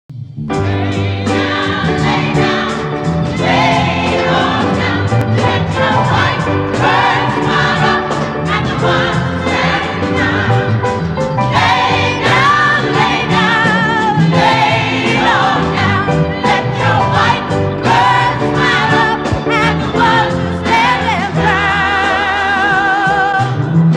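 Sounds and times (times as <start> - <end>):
gospel choir singing: 0.6 - 23.9.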